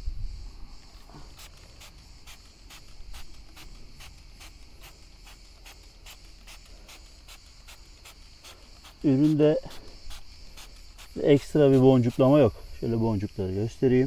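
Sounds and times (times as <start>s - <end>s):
trigger spray bottle spraying: 1.0s - 12.8s.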